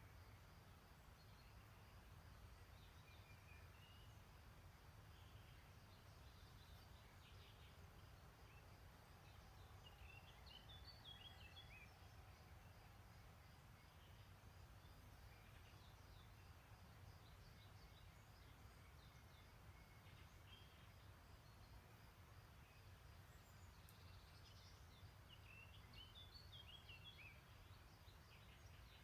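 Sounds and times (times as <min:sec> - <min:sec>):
distant songbirds singing: 0:00.0 - 0:29.0.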